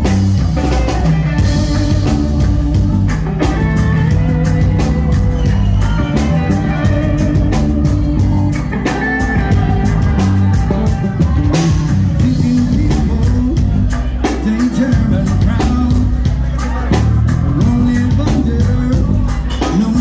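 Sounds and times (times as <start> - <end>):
drums steady beat: 0.0 - 20.0
guitar: 0.0 - 20.0
rock band playing: 0.0 - 20.0.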